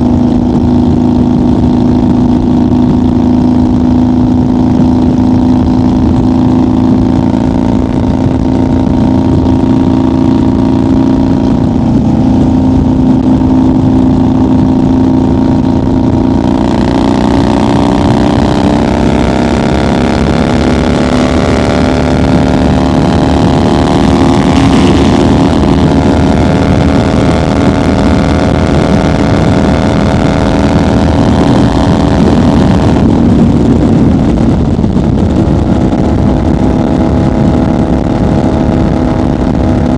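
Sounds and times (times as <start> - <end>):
motorcycle engine at highway speed: 0.0 - 39.9
wind rush: 0.0 - 39.9.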